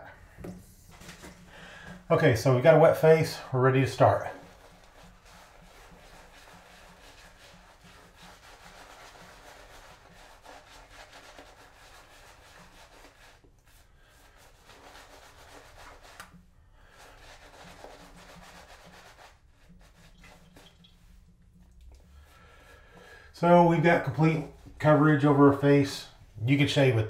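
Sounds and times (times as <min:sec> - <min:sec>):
shaving brush swishing lather: 0:00.6 - 0:22.1, 0:23.3 - 0:26.2.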